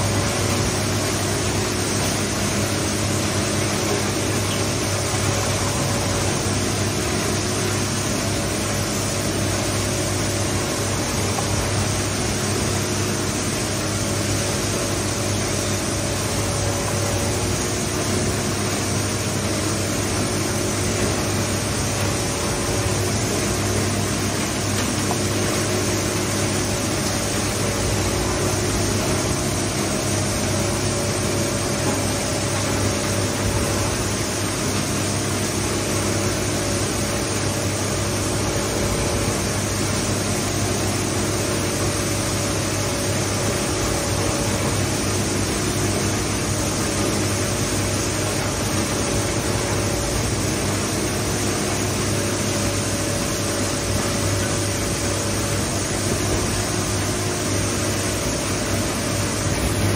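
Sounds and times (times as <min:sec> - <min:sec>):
industrial shredder motor hum: 0:00.0 - 0:59.9.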